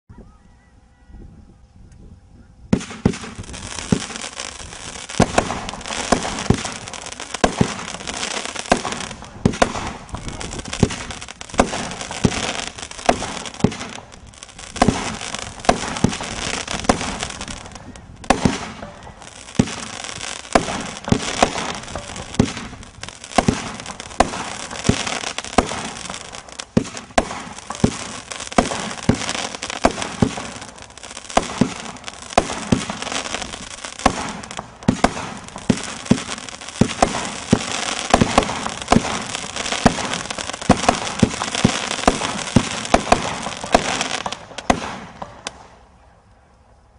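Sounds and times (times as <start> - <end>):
firework launch thumps and bursts: 2.7 - 4.3, 5.1 - 45.7
dense firework crackling: 2.7 - 46.2.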